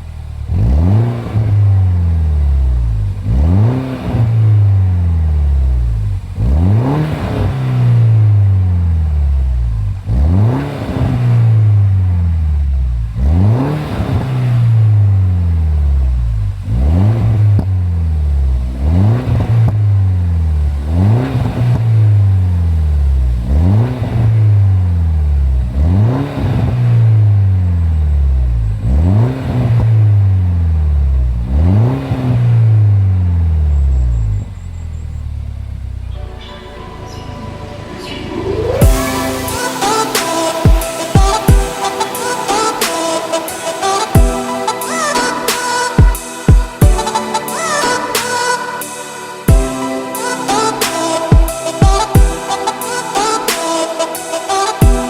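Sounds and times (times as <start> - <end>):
car engine revving: 0.0 - 49.5.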